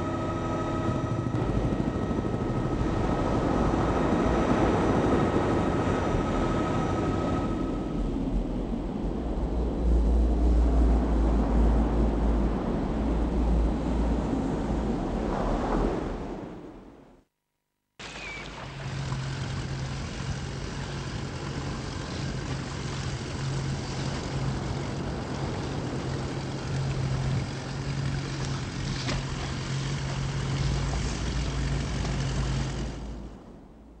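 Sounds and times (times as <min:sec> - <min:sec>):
boat engine running: 0:00.0 - 0:15.2, 0:18.0 - 0:34.0
hiss of wind and water: 0:00.0 - 0:17.0, 0:18.0 - 0:34.0.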